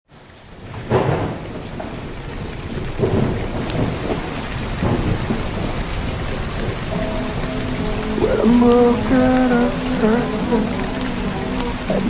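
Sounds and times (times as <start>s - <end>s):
steady rain: 0.1s - 12.0s
thunder rumbling: 0.2s - 12.0s.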